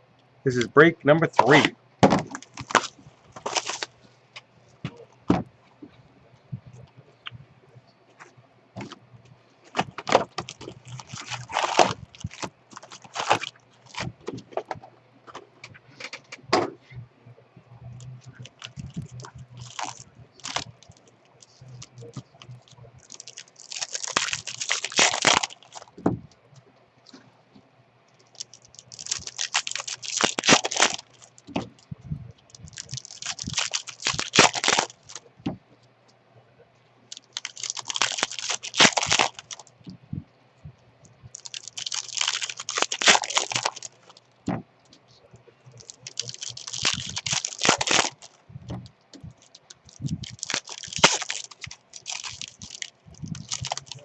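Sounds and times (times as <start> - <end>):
faint low hum: 0.0 - 54.0
plastic wrapper crinkling: 0.5 - 16.8, 17.8 - 27.3, 28.2 - 35.7, 37.1 - 40.0, 41.0 - 54.0.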